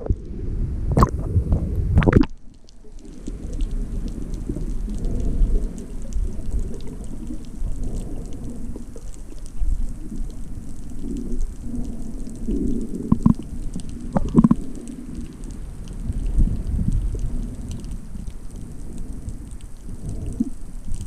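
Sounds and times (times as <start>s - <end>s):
underwater rumble of water: 0.0s - 21.0s
faint crackling clicks: 1.0s - 21.0s.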